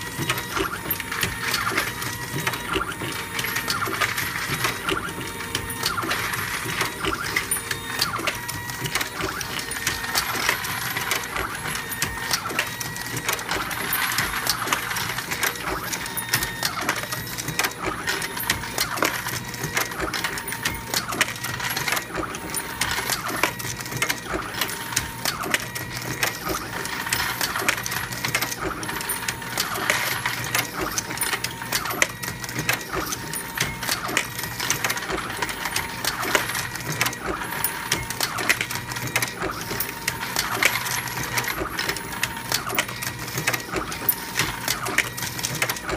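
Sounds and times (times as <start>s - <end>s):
reloading press mechanical clatter: 0.0s - 45.9s.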